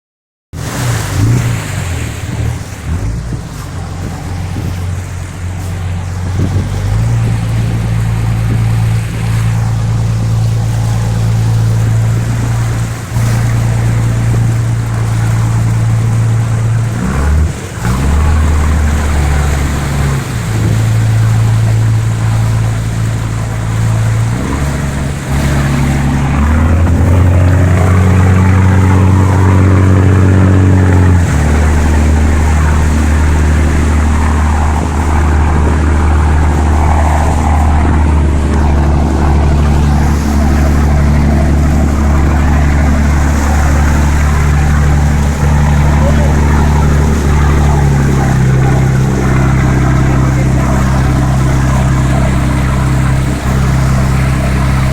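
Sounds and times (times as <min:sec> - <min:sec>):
sea noise: 0:00.5 - 0:54.9
wind: 0:00.5 - 0:54.9
boat diesel engine droning: 0:00.6 - 0:54.9.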